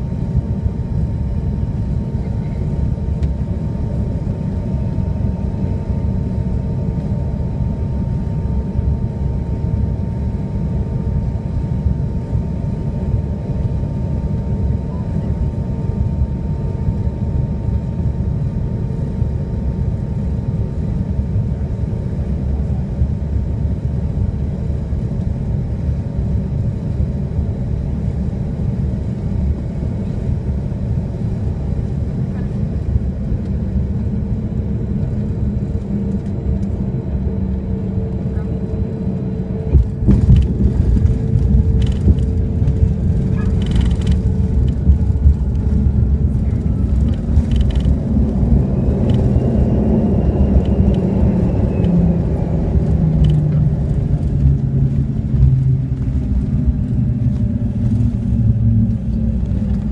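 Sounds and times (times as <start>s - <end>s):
jet cabin rumble: 0.0s - 59.9s.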